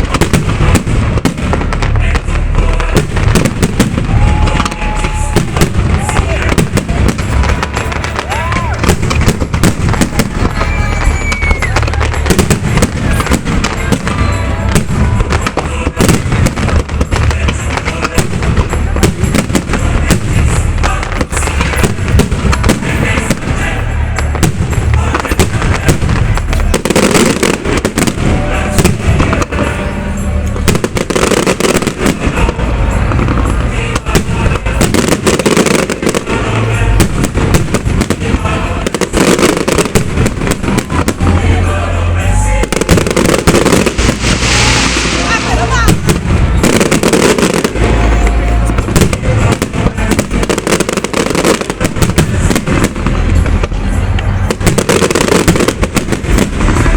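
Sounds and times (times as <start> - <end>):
deep booming rumble: 0.0 - 56.9
fireworks bangs and crackles: 0.0 - 56.9.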